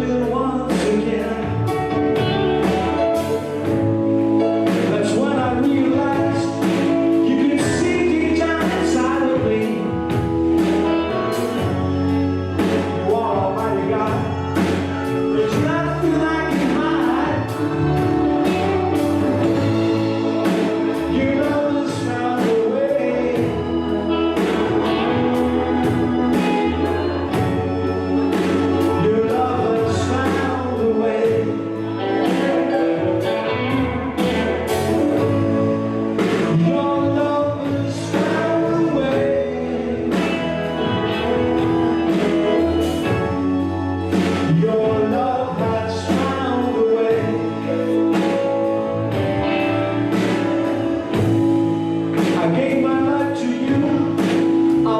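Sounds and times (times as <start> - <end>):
gospel music with singing: 0.0 - 54.9.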